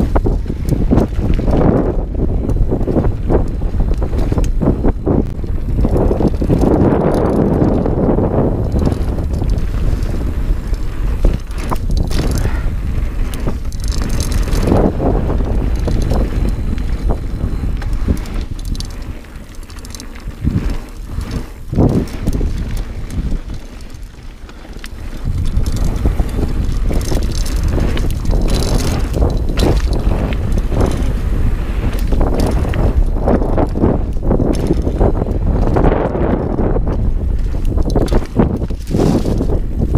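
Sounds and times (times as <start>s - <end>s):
bike knocking and rattling: 0.0s - 39.9s
tyres rumbling over dirt: 0.0s - 39.9s
wind buffeting microphone: 0.0s - 39.9s.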